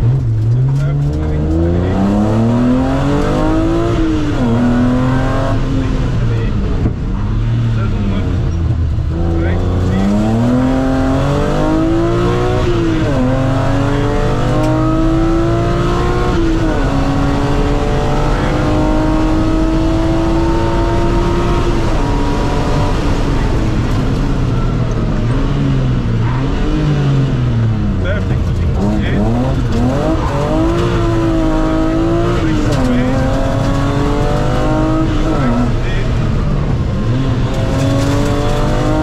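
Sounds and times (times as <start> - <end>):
rally car engine accelerating: 0.0 - 39.0.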